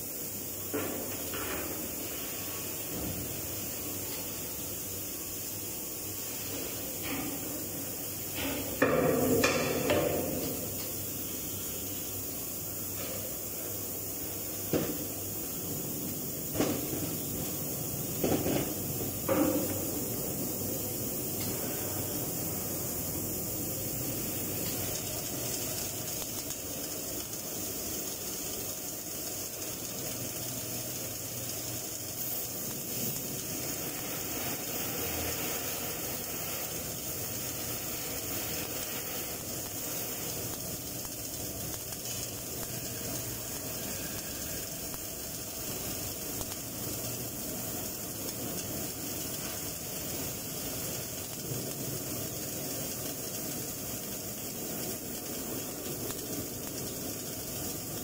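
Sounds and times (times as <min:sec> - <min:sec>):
welding arc hissing and crackling: 0:00.0 - 0:58.0.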